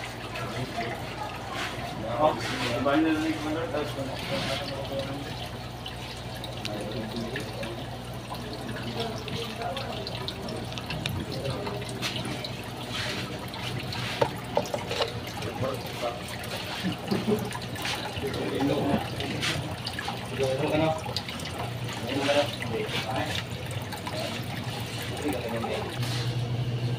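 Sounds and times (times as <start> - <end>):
aquarium water bubbling: 0.0 - 26.9.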